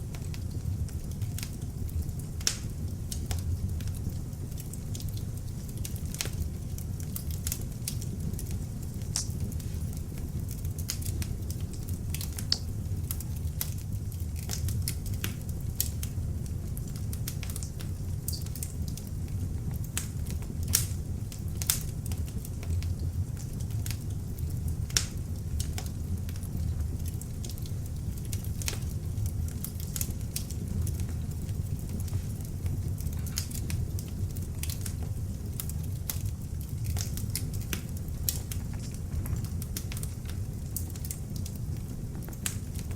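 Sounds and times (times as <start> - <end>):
log fire burning: 0.0 - 42.9
wood crackling and popping: 0.0 - 42.9.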